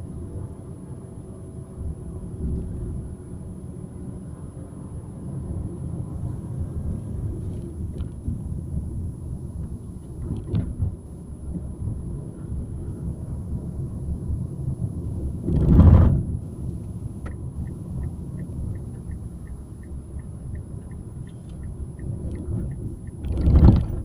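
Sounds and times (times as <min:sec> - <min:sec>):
vehicle driving on street: 0:00.0 - 0:24.0.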